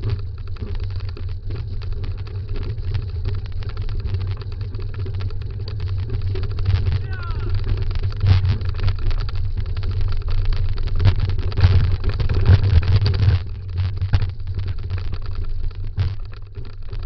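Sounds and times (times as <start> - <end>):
scooter rumbling over rough trail: 0.0 - 17.0.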